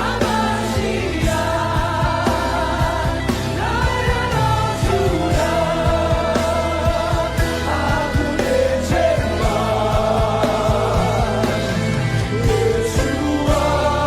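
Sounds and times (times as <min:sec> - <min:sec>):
band with bass and drums: 0:00.0 - 0:14.0
voices singing: 0:00.0 - 0:14.0.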